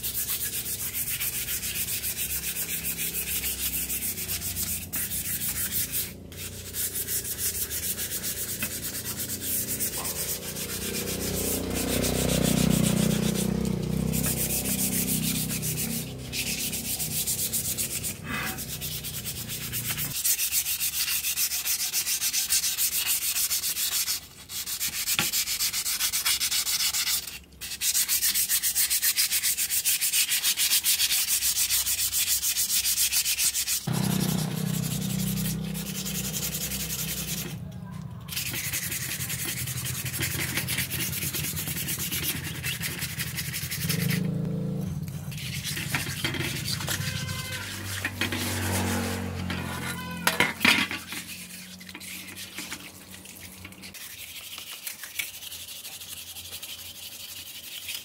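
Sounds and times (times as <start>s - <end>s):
sanding rust off metal: 0.0s - 44.4s, 45.0s - 58.0s.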